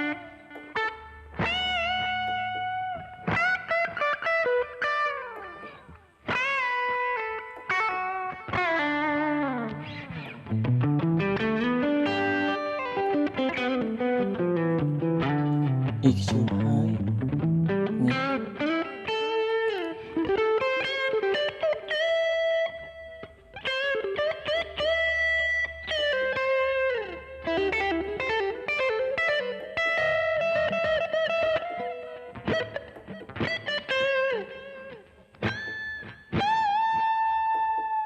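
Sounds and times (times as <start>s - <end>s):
electric guitar lead line: 0.0s - 38.0s.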